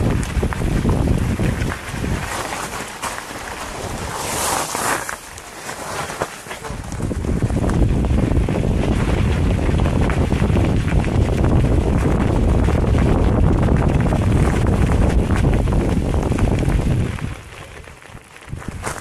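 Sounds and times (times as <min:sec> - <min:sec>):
wind buffeting microphone: 0:00.0 - 0:05.4, 0:06.0 - 0:19.0.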